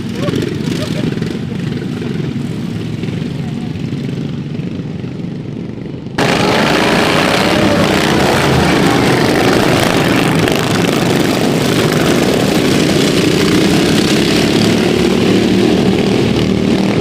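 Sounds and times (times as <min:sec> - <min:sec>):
small engines racing: 0:00.0 - 0:17.0.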